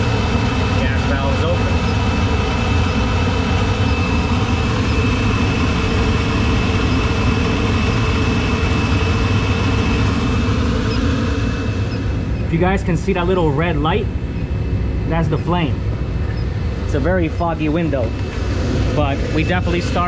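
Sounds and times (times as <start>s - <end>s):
low rumble of boilers: 0.0s - 20.0s.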